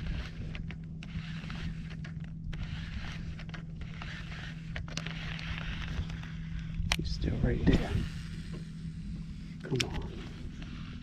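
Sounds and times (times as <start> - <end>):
fishing reel clicks and scrapes: 0.0 - 11.0
steady low hum: 0.0 - 11.0.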